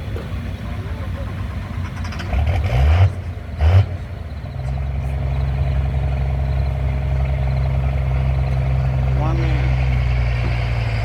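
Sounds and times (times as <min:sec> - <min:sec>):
vehicle engine revving: 0:01.8 - 0:11.0.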